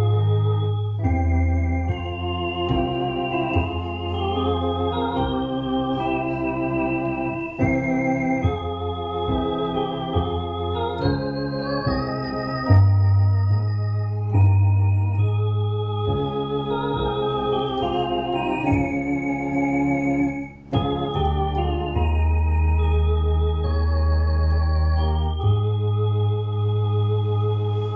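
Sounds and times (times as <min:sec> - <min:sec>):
electronic organ playing hymn: 0:00.0 - 0:27.9.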